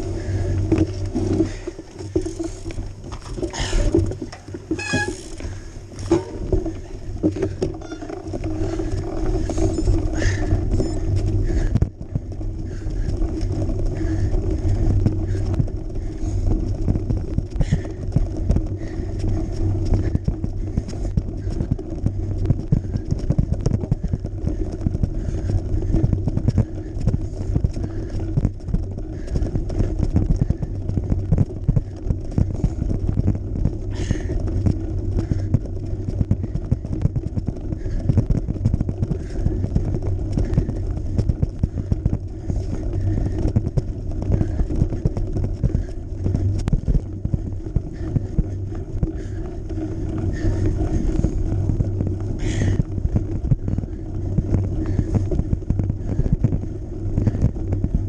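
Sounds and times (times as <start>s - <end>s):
bike rattling over rough track: 0.0s - 58.0s
wind rumbling on microphone: 0.0s - 58.0s.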